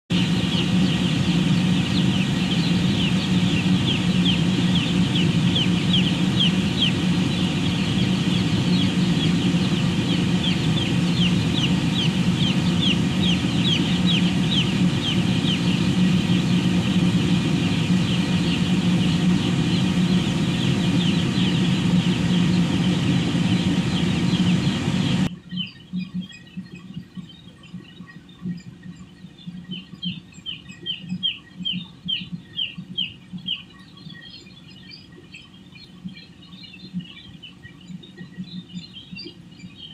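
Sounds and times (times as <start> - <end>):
chicks peeping: 0.1 - 39.9
machine humming: 0.1 - 39.9.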